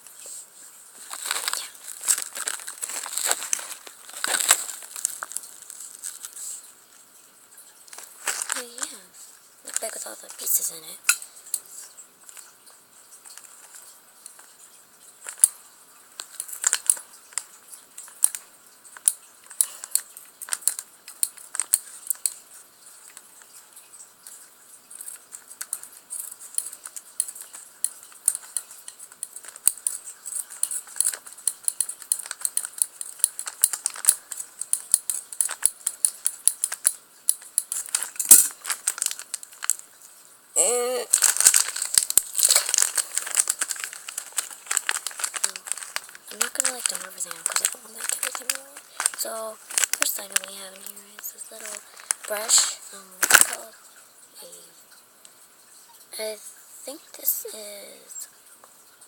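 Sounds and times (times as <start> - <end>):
plastic bag crinkling: 0.2 - 7.1, 7.8 - 40.0, 40.6 - 54.0
small plastic pieces rattling: 1.0 - 6.6, 7.9 - 11.2, 13.2 - 15.6, 16.2 - 40.0, 40.6 - 53.8.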